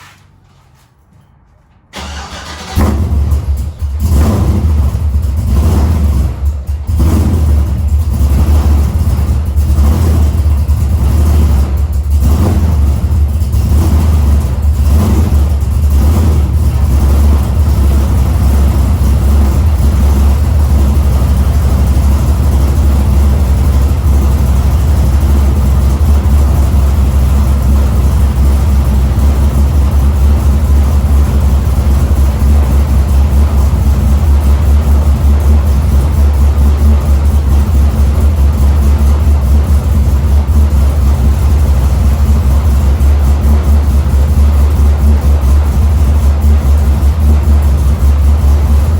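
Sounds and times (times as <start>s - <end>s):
loud deep engine idling: 2.0s - 48.9s.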